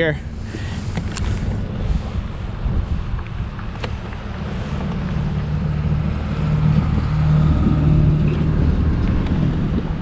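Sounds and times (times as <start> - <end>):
engine hum: 0.0 - 10.0
wind buffeting microphone: 0.2 - 10.0.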